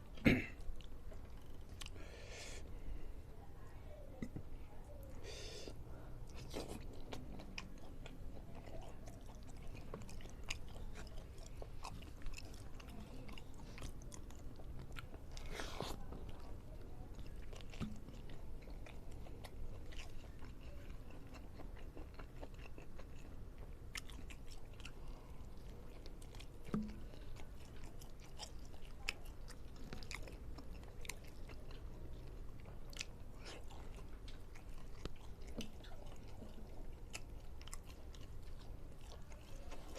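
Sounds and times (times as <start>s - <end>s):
close chewing and biting: 0.0s - 2.1s, 5.0s - 39.9s
food crunching: 0.1s - 2.1s, 6.2s - 39.9s.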